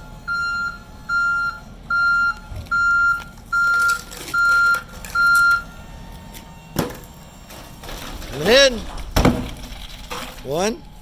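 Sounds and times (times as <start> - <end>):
truck reversing alarm beeping: 0.0 - 11.0.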